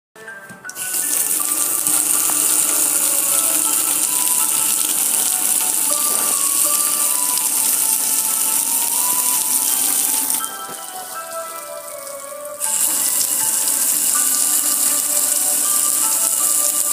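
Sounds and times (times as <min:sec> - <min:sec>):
water spraying at a car wash: 0:00.8 - 0:16.9.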